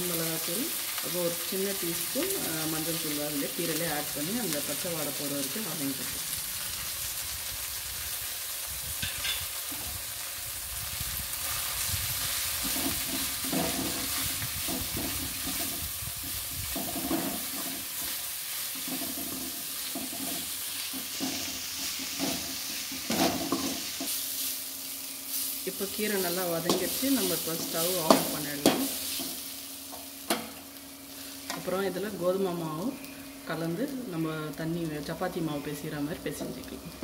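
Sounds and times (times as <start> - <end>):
leaves sizzling in oil: 0.0 - 37.0.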